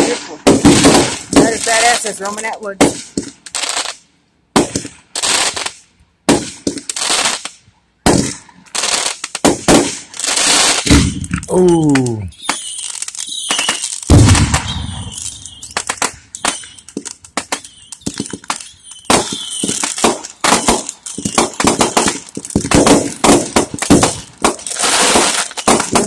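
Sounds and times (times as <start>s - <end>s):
firework shells bursting: 0.0s - 26.0s
rapid firework crackling: 0.0s - 26.0s.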